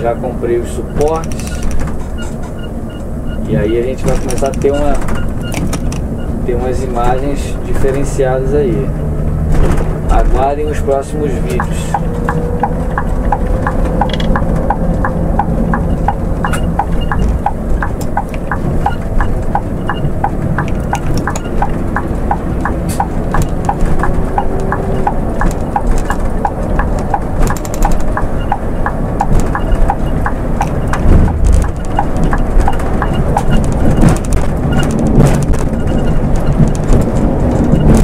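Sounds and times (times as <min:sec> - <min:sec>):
engine and road rumble: 0:00.0 - 0:38.0
light even ticking: 0:02.9 - 0:06.3, 0:10.4 - 0:38.0.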